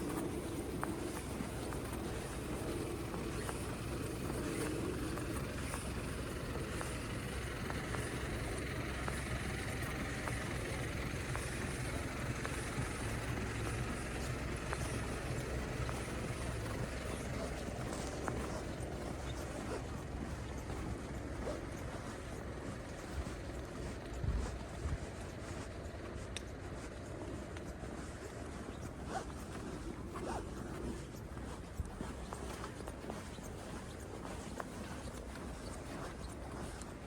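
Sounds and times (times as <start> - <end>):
footsteps walking: 0.0 - 37.0
traffic rumble: 0.0 - 37.0.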